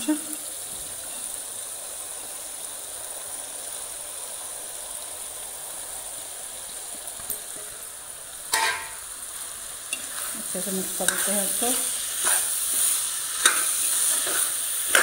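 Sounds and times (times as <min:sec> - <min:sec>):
oil sizzling hiss: 0:00.0 - 0:15.0.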